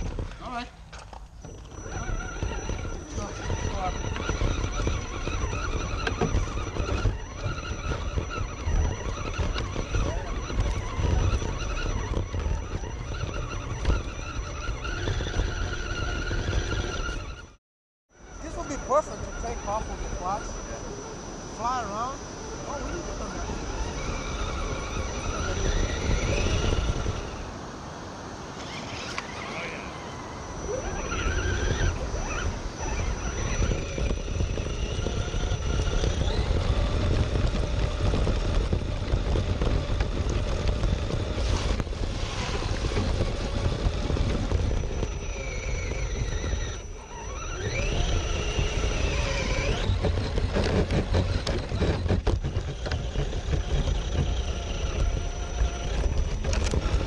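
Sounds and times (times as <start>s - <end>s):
electric motor and gears whining: 0.0s - 57.0s.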